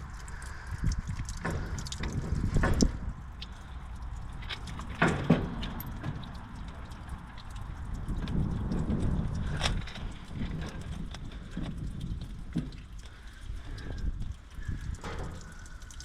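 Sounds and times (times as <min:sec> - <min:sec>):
hand tools and metal fittings clicking: 0:00.0 - 0:16.0
low rumble: 0:00.0 - 0:16.0.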